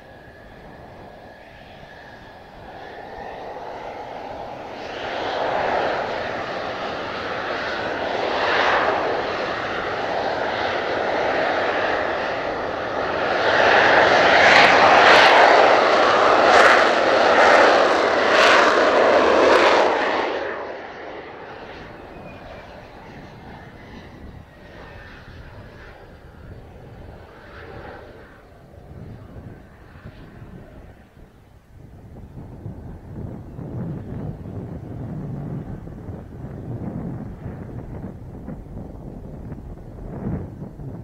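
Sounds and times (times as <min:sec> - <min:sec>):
jet engine running: 0:00.0 - 0:41.0.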